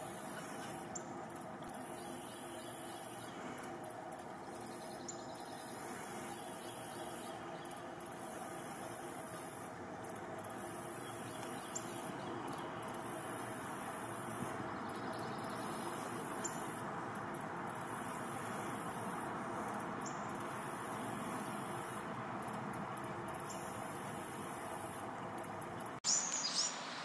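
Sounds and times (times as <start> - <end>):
insects trilling: 0.0 - 27.0
steady hiss: 0.0 - 27.0.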